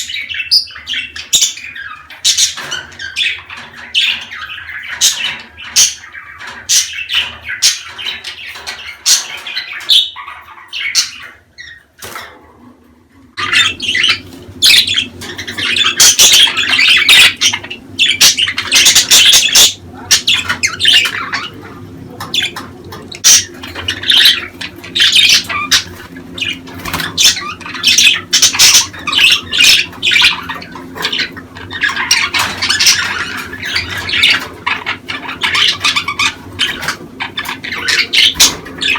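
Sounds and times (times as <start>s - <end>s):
budgerigars chattering: 0.0s - 11.9s, 13.4s - 38.9s.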